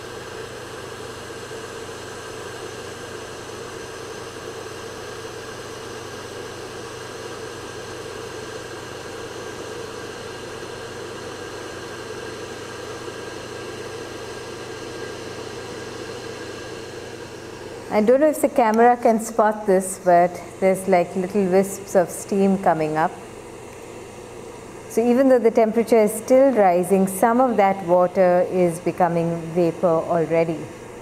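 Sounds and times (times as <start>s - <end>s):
electric kettle hissing: 0.0s - 31.0s.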